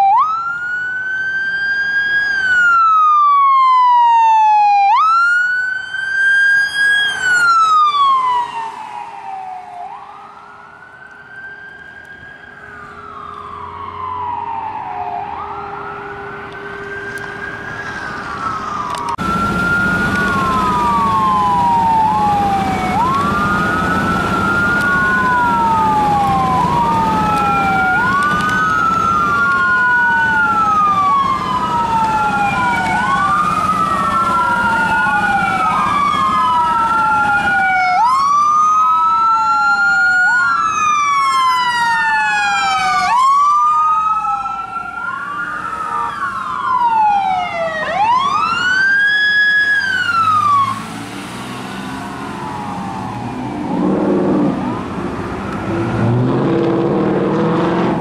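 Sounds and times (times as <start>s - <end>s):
emergency sirens wailing: 0.0s - 58.0s.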